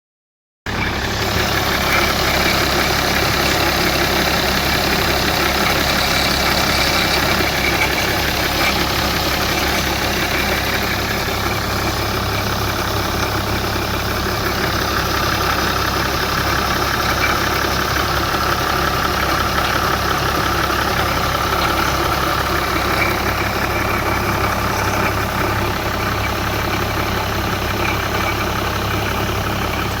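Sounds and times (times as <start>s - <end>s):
diesel engine idling: 0.7s - 30.0s
strange engine noise: 0.7s - 30.0s.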